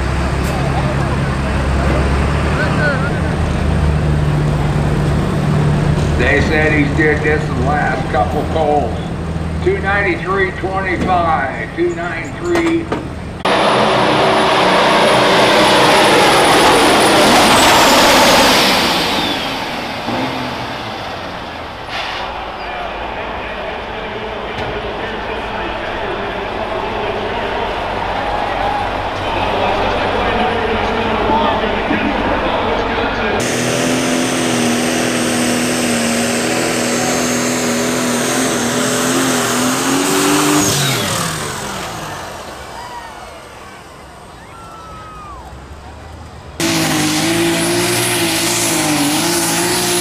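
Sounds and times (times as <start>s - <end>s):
diesel truck engine under load: 0.0s - 50.0s.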